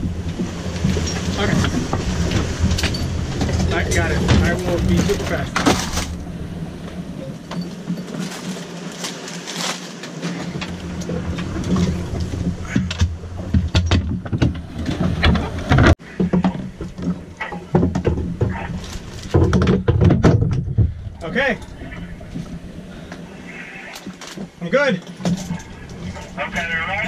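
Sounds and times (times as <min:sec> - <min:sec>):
steady low hum: 0:00.0 - 0:08.2, 0:10.2 - 0:27.0
gear knocking and rattling: 0:00.0 - 0:27.0.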